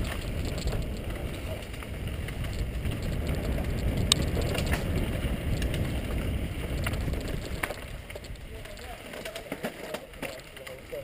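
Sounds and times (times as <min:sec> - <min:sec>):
bike clicks and rattles: 0:00.0 - 0:11.0
bike tyres rumbling on dirt: 0:00.0 - 0:11.0.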